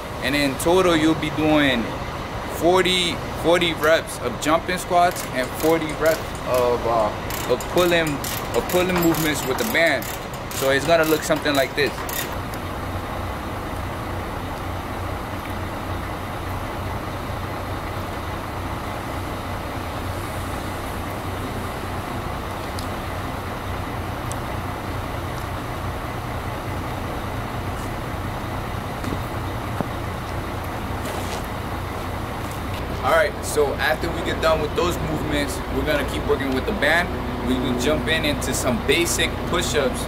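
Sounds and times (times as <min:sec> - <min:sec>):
vehicle rumble: 0:00.0 - 0:40.0.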